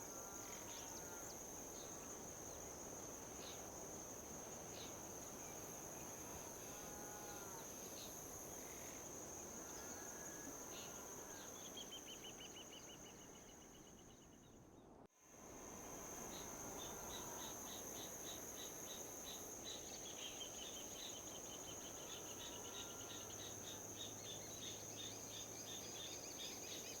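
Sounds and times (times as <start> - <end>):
insects trilling and chirping: 0.0 - 14.6, 15.3 - 27.0.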